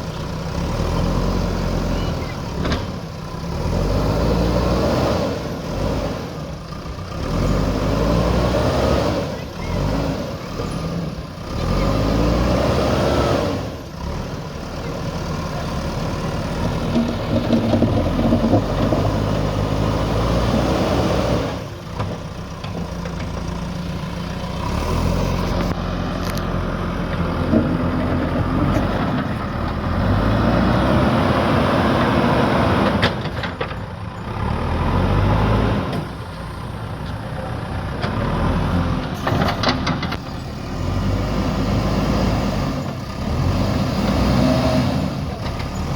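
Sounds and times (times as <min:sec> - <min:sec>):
diesel engine revving under load: 0:00.0 - 0:45.9.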